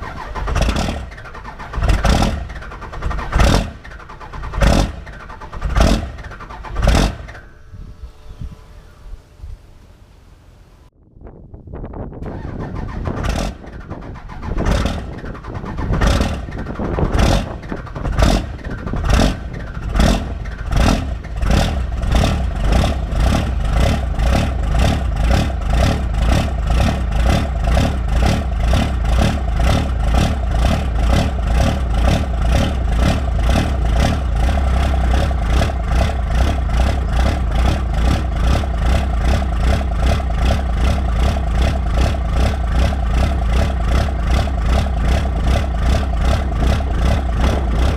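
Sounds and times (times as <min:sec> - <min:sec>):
diesel engine starting and idling: 0:00.0 - 0:10.9, 0:12.0 - 0:47.9.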